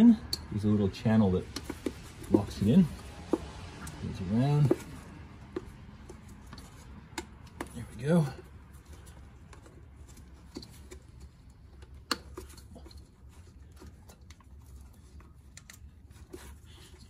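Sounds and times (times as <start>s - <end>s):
gloved hand rustling: 1.0s - 17.0s.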